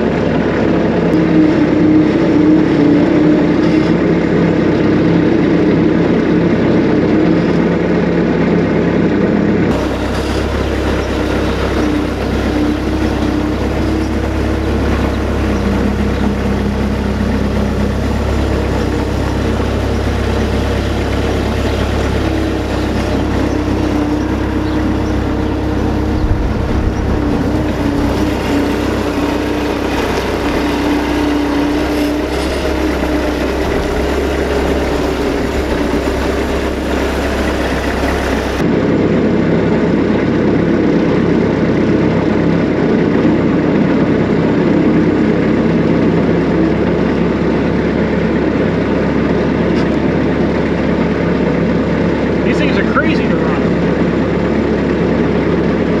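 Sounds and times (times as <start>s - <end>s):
diesel loader engine running: 0.0s - 56.0s.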